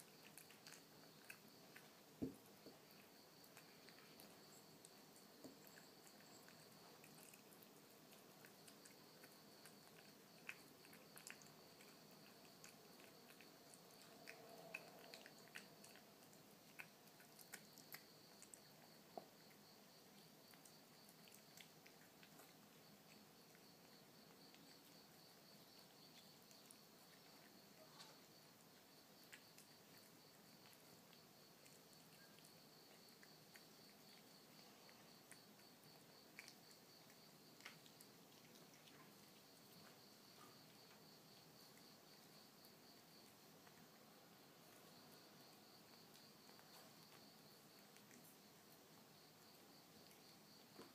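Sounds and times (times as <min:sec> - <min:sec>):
kitten chewing and licking: 0:00.0 - 0:50.9.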